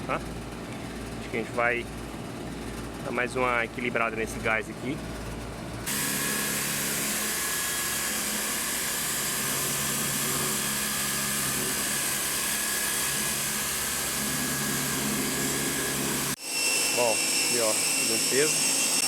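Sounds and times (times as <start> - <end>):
air conditioner fan rushing: 0.0 - 18.0
motor and compressor hum: 0.0 - 19.0.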